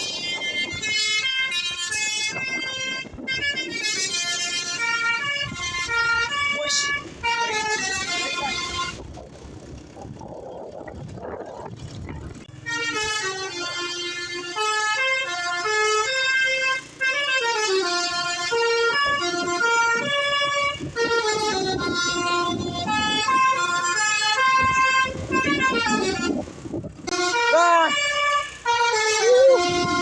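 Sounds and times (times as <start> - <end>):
multi-tone bus horn melody: 0.0 - 9.9, 12.5 - 30.0.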